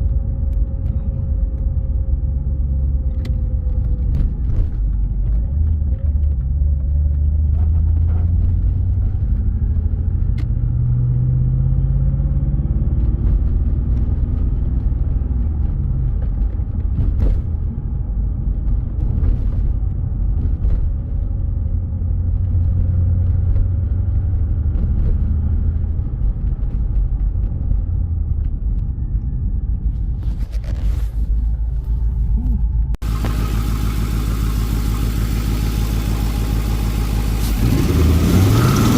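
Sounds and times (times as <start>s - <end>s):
car engine rumbling: 0.0s - 38.9s.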